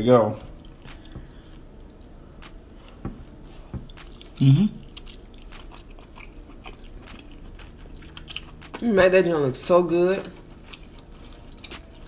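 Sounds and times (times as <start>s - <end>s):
chewing soft food: 0.3s - 8.8s, 10.2s - 12.0s.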